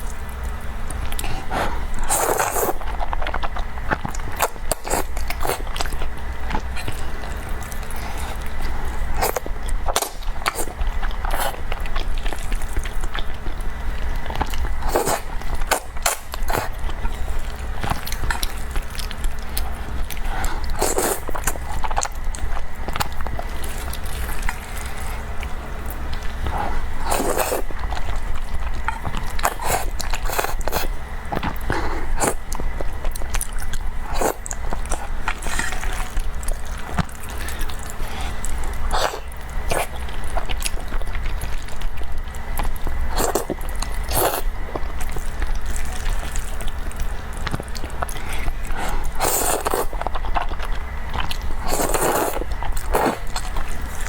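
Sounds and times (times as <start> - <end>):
person biting and chewing food: 0.8 - 54.0.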